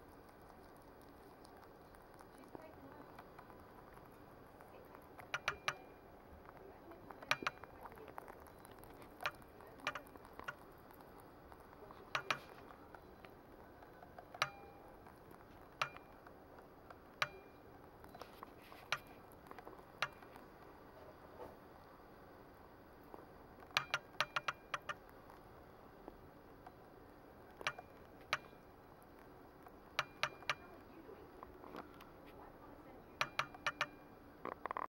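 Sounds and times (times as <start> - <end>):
rabbit gnawing and crunching: 0.0 - 34.9.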